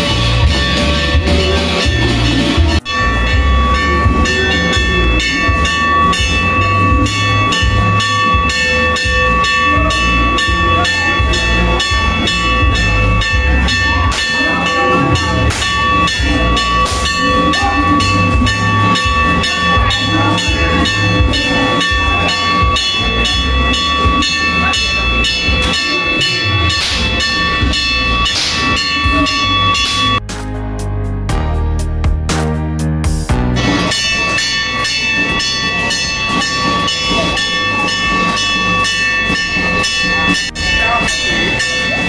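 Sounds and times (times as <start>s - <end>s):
ringing tones: 0.0s - 30.2s, 33.6s - 42.0s
metallic percussion strikes: 0.0s - 31.4s, 33.4s - 42.0s.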